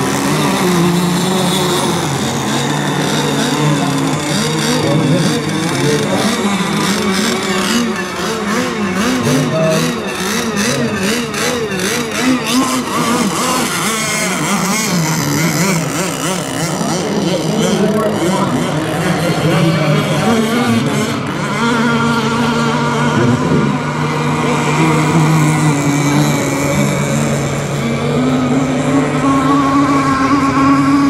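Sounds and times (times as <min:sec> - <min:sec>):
racing boat motors: 0:00.0 - 0:31.0.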